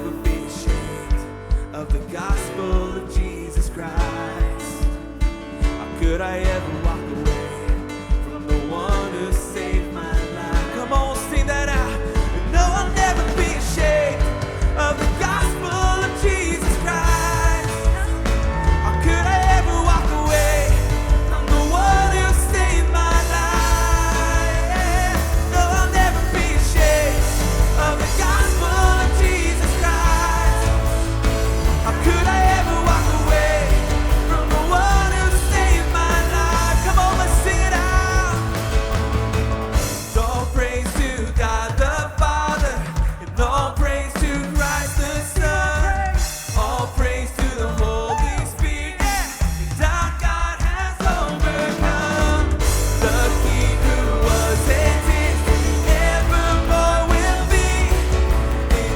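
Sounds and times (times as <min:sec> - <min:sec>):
person singing: 0:00.0 - 0:58.9
worship band playing: 0:00.0 - 0:58.9.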